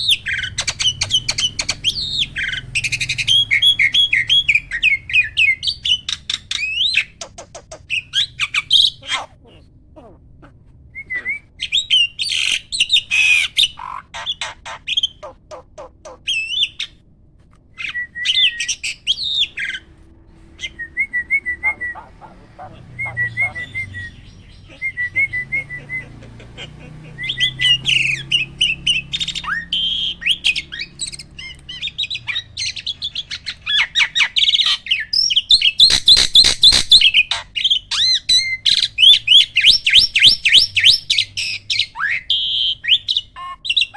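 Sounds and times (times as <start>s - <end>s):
starling singing: 0.0s - 17.0s, 17.8s - 43.9s.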